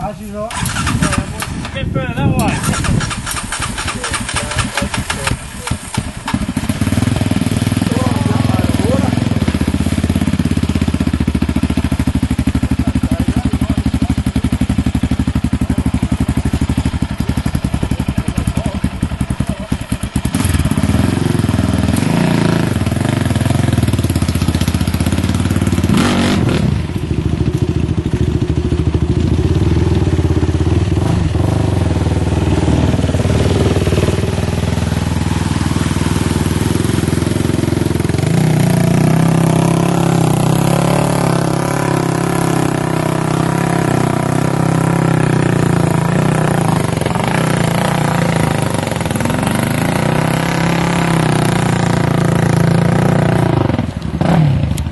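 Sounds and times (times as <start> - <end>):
quad engine revving: 0.0 - 54.9
driving through water: 2.4 - 54.9.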